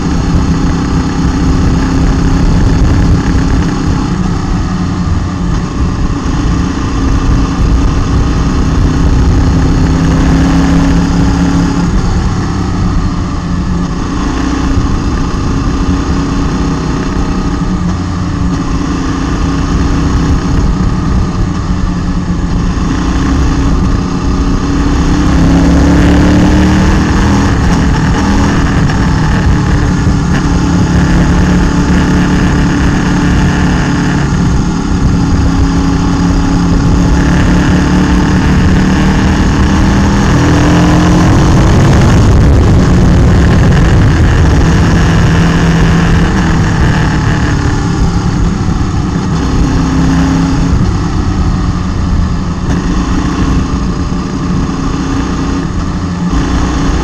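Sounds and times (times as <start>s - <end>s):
low wind rumble: 0.0s - 57.0s
motorcycle engine running: 0.0s - 57.0s.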